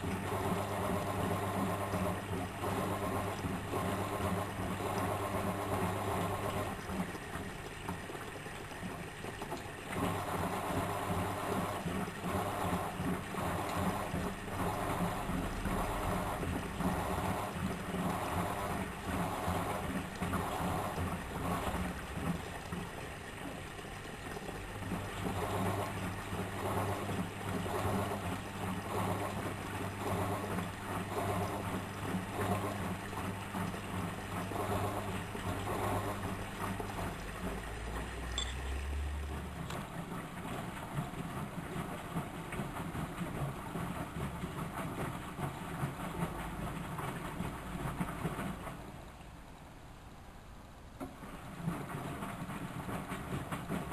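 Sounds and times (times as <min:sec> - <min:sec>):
water and laundry swishing: 0:00.0 - 0:49.8, 0:51.0 - 0:53.9
washing machine motor humming: 0:00.0 - 0:53.9.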